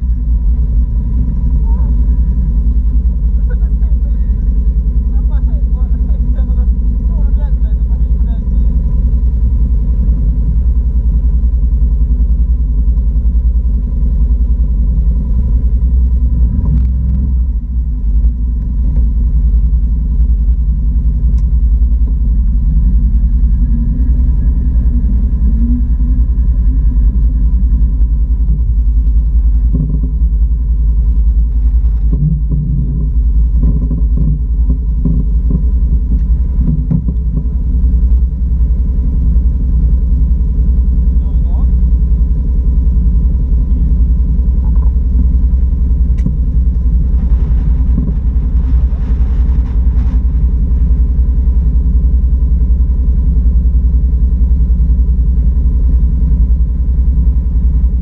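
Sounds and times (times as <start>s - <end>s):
atv engine rumbling: 0.0s - 58.0s
thin steady whine: 0.0s - 58.0s.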